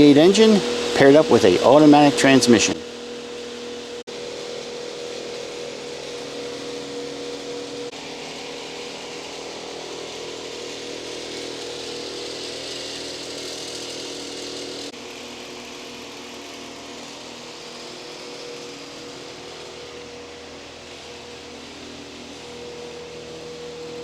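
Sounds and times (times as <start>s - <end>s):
machine drone with hiss: 0.0s - 24.0s.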